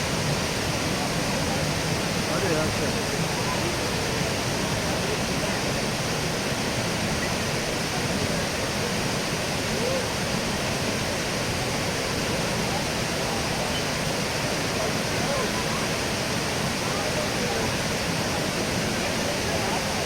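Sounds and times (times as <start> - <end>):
waterfall rushing: 0.0 - 20.0
faint voices of people: 0.6 - 10.8, 11.5 - 20.0.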